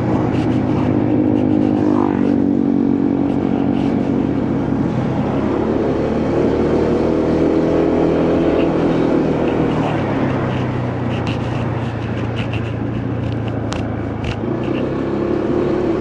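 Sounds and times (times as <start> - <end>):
wind noise: 0.0 - 14.9
motorcycle engine running: 0.0 - 16.0
road noise: 0.0 - 16.0.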